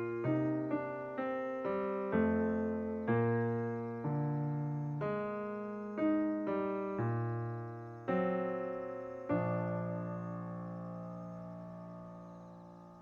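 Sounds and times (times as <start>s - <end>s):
calm slow piano music: 0.0s - 13.0s.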